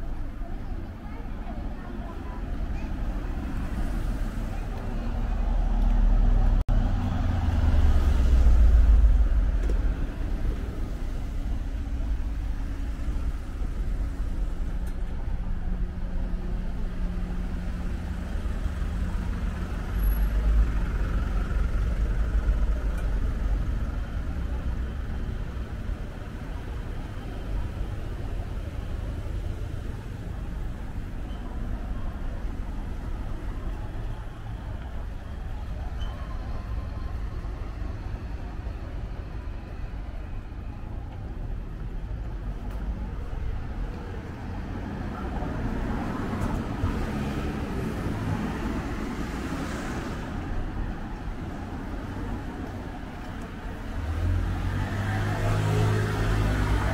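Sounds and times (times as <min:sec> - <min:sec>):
street background noise: 0:00.0 - 0:56.9
vehicles passing: 0:00.0 - 0:56.9.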